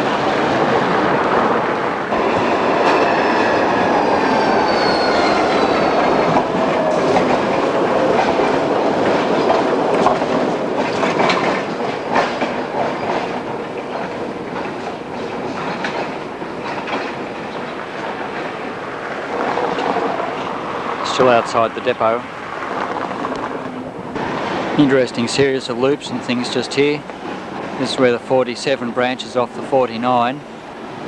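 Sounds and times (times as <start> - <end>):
electric tram whine: 0.0 - 31.0
tram wheels clicking over rail joints: 0.0 - 31.0.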